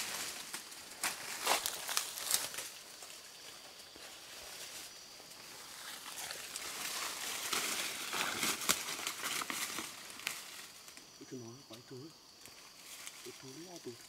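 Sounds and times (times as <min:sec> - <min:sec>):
rustling and crackling: 0:00.0 - 0:11.2, 0:12.4 - 0:14.0.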